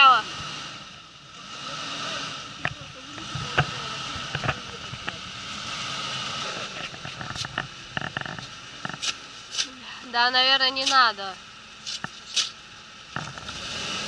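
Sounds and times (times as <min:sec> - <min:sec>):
suv engine driving through snow: 0:00.0 - 0:14.0.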